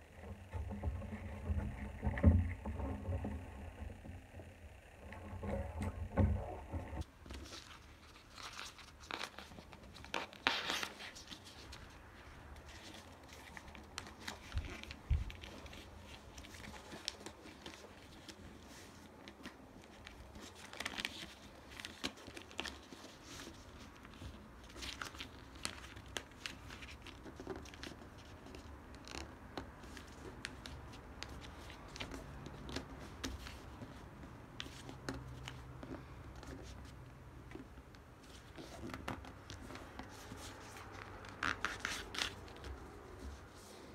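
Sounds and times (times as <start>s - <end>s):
paper rustling and crinkling: 6.8s - 43.9s.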